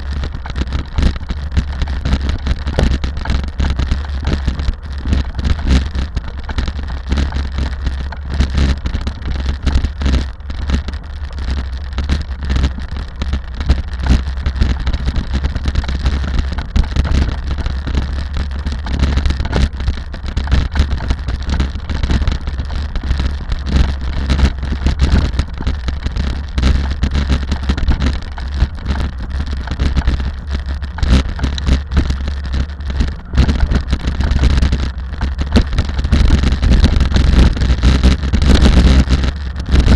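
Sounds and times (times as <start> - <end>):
irregular crackle: 0.0 - 39.9
rally car engine and road rumble: 0.0 - 39.9.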